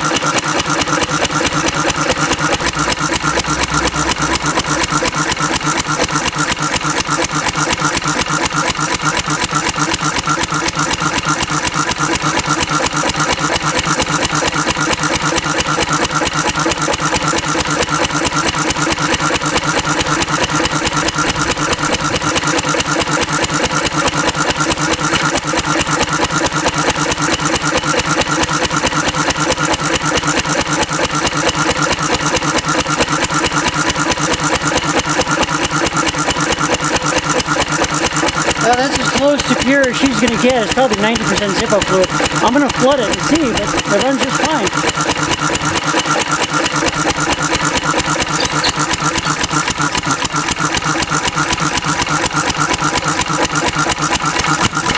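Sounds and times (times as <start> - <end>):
stationary engine running: 0.0 - 54.9.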